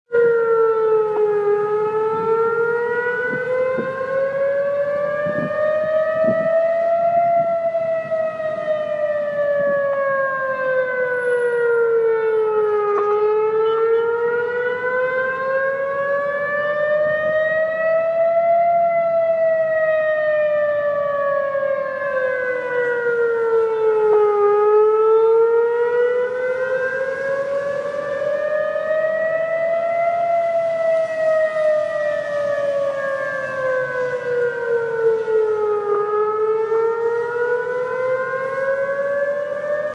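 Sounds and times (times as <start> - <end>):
emergency siren wailing: 0.1 - 39.9.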